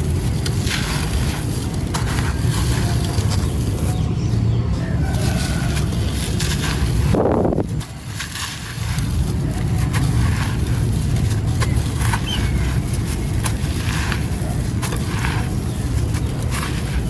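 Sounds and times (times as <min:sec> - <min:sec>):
concrete crunching: 0:00.0 - 0:17.0
steady low rumble: 0:00.0 - 0:17.0.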